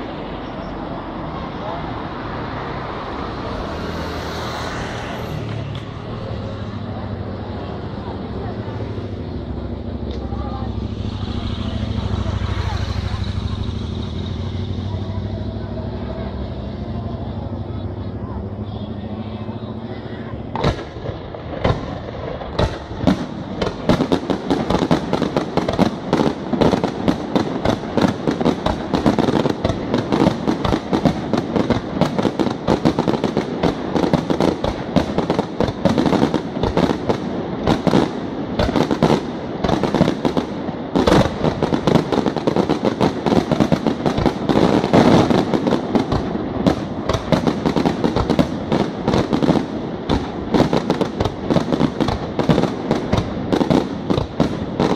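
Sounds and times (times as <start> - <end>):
fireworks bursting with bangs and crackles: 0.0 - 54.9.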